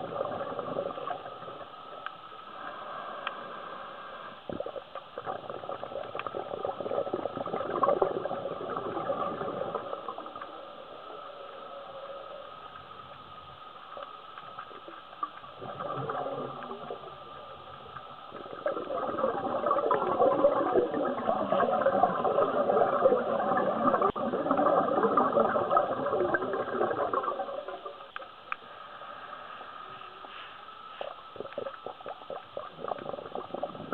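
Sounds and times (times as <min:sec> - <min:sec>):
faint steady hum: 0:00.0 - 0:33.9
underwater bubbles gurgling: 0:00.0 - 0:33.9.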